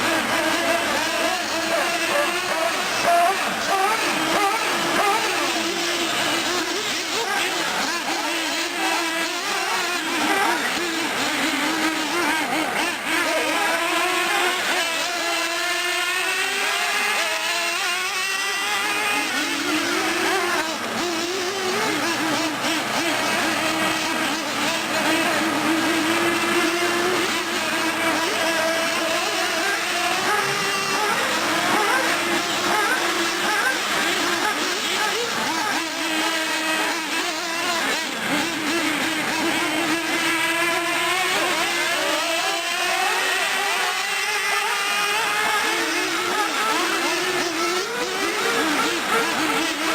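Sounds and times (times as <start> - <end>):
model car engines whining: 0.0 - 49.9.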